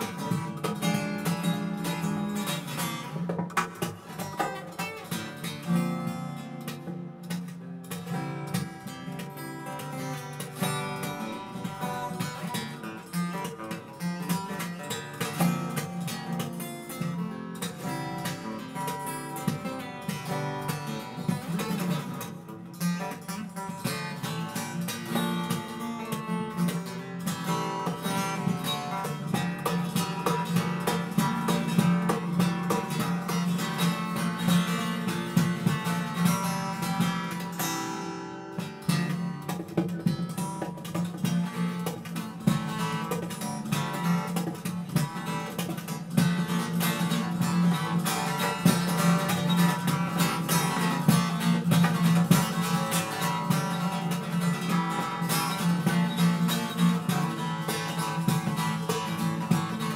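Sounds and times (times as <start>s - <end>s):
acoustic guitar strumming fast: 0.0s - 59.9s.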